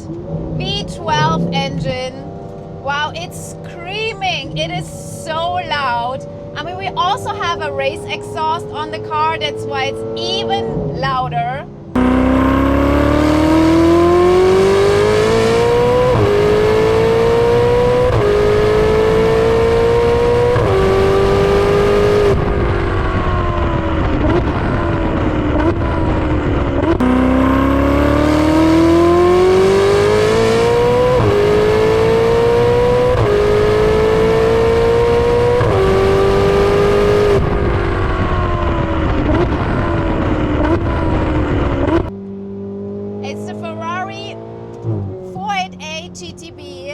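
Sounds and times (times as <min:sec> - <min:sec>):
sports car engine accelerating: 0:00.0 - 0:46.9.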